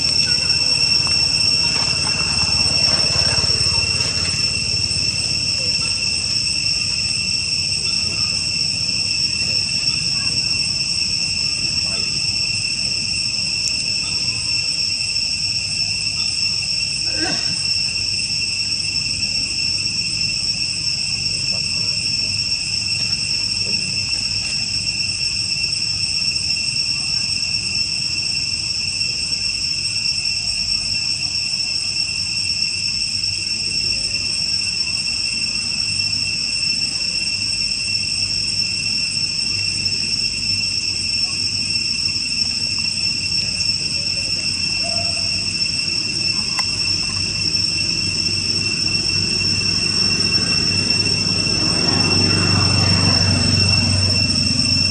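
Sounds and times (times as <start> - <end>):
insect chorus drone: 0.0 - 54.9.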